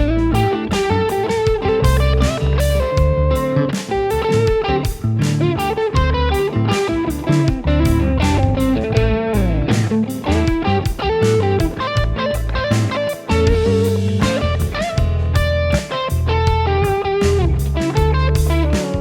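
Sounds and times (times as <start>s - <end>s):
backing track with drums and bass: 0.0s - 19.0s
electric guitar lead line: 0.0s - 19.0s.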